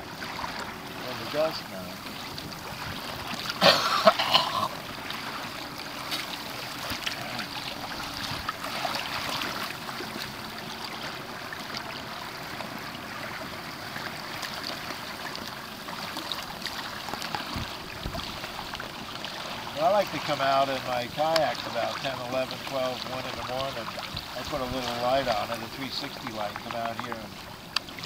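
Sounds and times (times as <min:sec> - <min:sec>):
small water slaps: 0:00.0 - 0:28.0
water rushing along a hull: 0:00.0 - 0:28.0.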